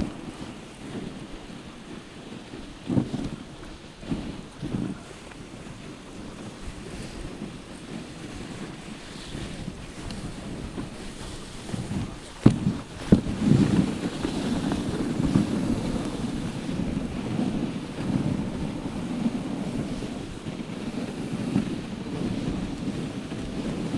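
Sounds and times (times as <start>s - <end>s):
sled runners hissing over snow: 0.0s - 23.9s
wind buffeting microphone: 0.0s - 23.9s.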